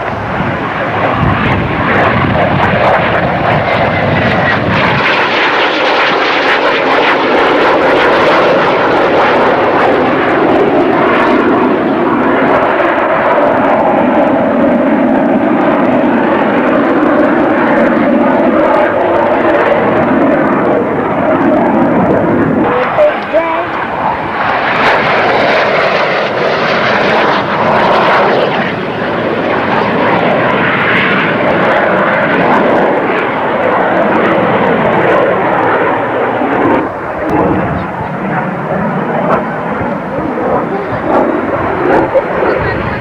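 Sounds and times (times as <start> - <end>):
jet fighter engines roaring: 0.0 - 43.0.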